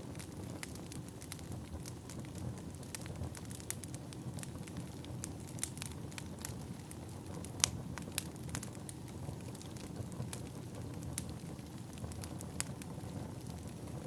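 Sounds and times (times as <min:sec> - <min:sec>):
fire rumbling: 0:00.0 - 0:14.0
firewood crackling and popping: 0:00.0 - 0:14.0.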